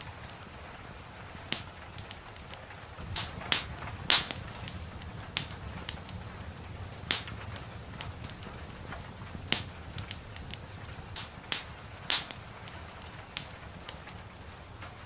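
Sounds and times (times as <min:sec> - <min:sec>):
soft hiss of rain: 0:00.0 - 0:15.0
wood fire crackling: 0:00.0 - 0:15.0.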